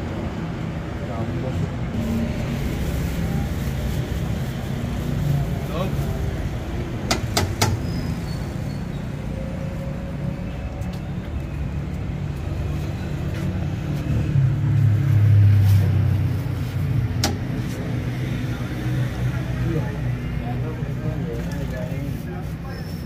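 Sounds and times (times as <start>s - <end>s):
street traffic rumble: 0.0s - 23.0s
vehicle engine: 0.0s - 23.0s.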